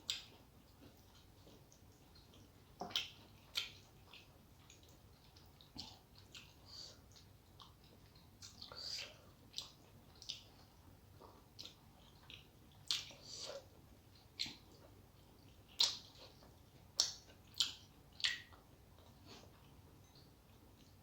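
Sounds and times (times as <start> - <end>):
mouth chewing wetly: 0.1 - 19.8.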